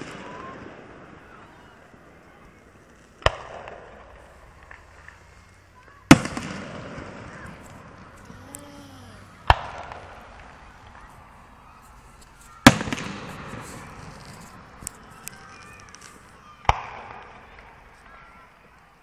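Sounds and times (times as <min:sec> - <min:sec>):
fireworks booming with echo: 0:00.0 - 0:11.8, 0:12.5 - 0:18.9
small firework cracks: 0:00.0 - 0:19.0.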